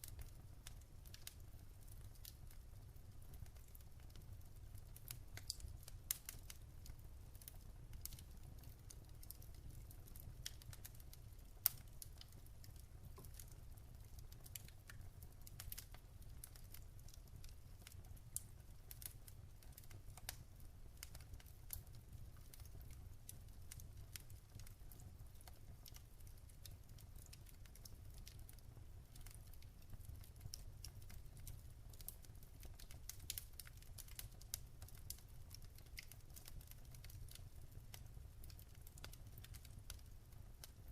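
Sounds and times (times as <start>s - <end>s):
sharp snaps and pops: 0.0s - 40.9s
wood fire crackling: 0.0s - 40.9s.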